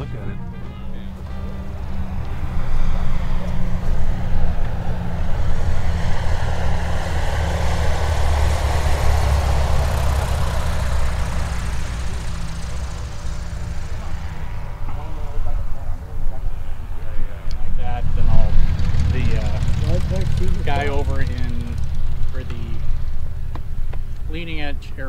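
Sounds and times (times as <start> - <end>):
propeller airplane passing: 0.0 - 25.0.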